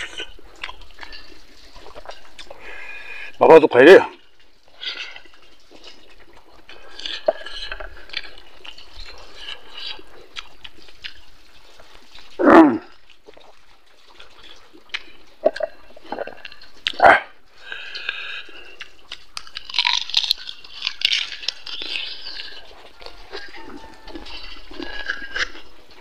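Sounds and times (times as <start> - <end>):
wet chewing and lip-smacking: 0.0 - 3.4, 4.2 - 26.0.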